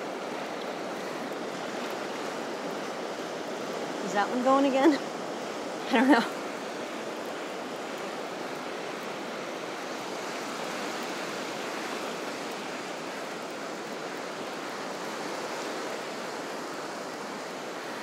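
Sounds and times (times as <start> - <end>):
ocean surf washing ashore: 0.0 - 18.0.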